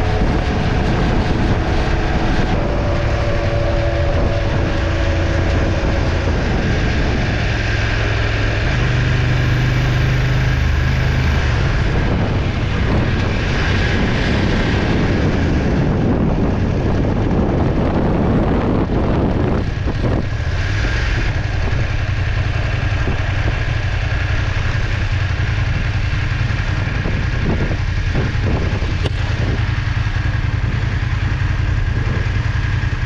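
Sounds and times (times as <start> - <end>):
wind rushing: 0.0 - 31.1
motorcycle engine drone: 0.0 - 33.0.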